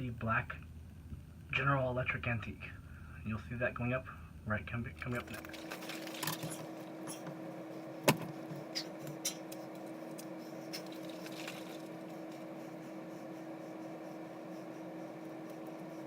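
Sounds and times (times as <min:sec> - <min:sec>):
steady quiet hum: 0:00.0 - 0:16.0.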